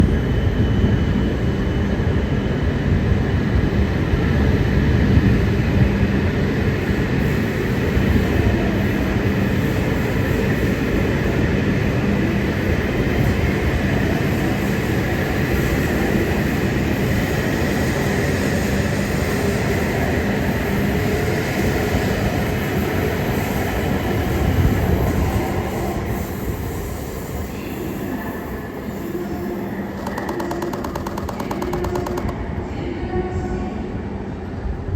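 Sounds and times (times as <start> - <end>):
train rail and running noise: 0.0 - 34.9.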